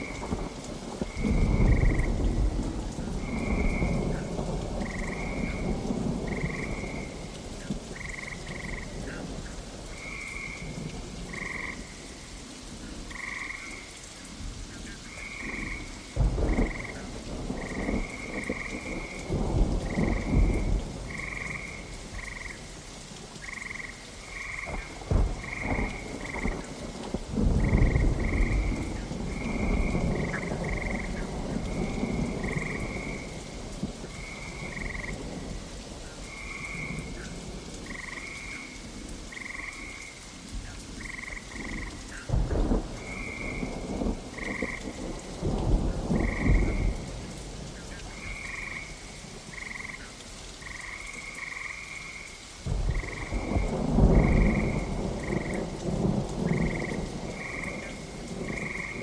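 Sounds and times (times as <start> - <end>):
thunder rumbling: 0.0 - 11.9, 15.1 - 22.8, 23.4 - 35.7, 36.3 - 50.0, 52.6 - 59.0
frogs croaking: 0.0 - 59.0
steady rain: 0.0 - 59.0.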